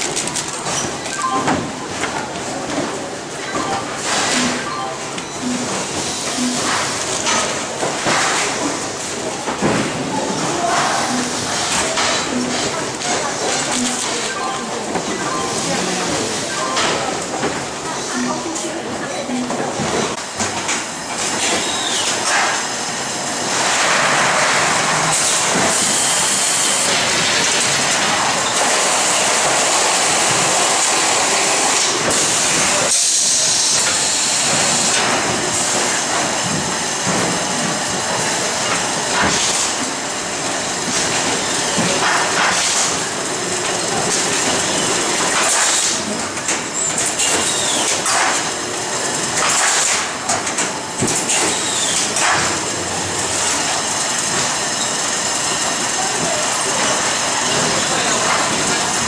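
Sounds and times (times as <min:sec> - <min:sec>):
packing machinery running: 0:00.0 - 0:59.0.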